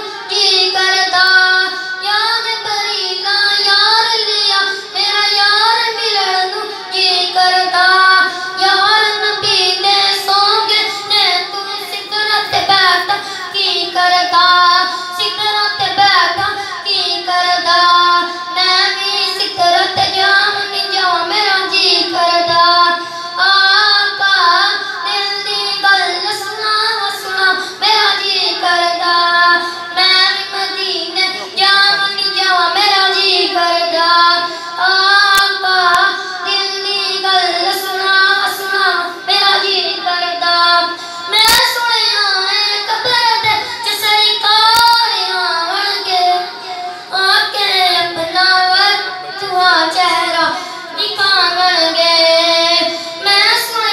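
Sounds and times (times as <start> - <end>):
boy singing into a microphone: 0.0 - 53.9.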